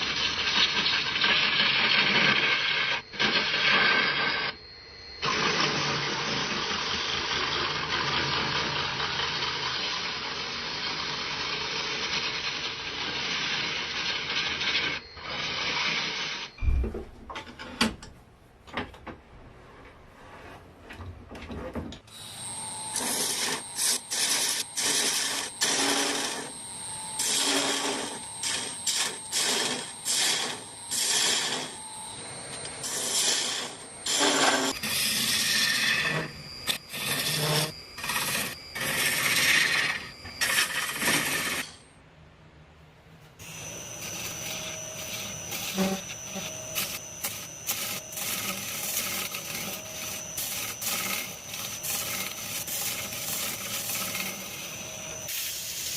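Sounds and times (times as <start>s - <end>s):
wood lathe turning: 0.0s - 16.6s, 22.1s - 41.8s, 43.4s - 55.9s
tool cutting spinning wood: 0.0s - 16.8s, 22.1s - 41.8s, 43.4s - 55.9s.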